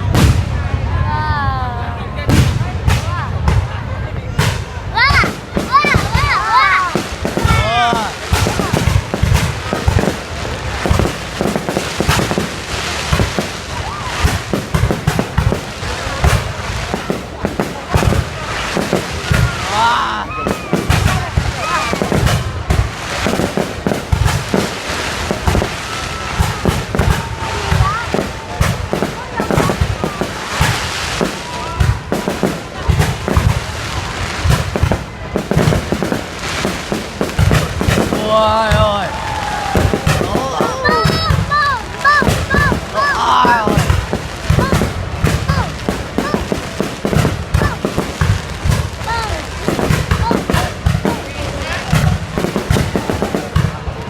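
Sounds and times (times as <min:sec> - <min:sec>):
sharp firework cracks: 0:00.0 - 0:01.0, 0:02.3 - 0:54.0
continuous firework crackle: 0:00.0 - 0:54.0
deep firework booms: 0:00.0 - 0:54.0.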